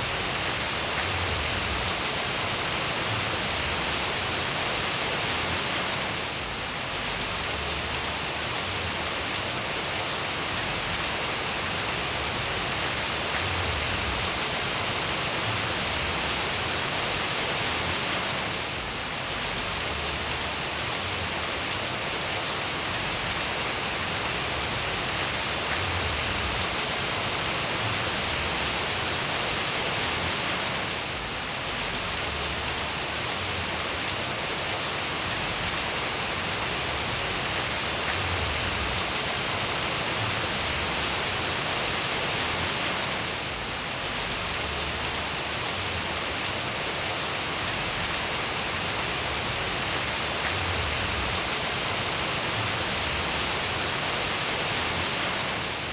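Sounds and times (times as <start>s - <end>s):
dense rainfall hiss: 0.0s - 55.9s.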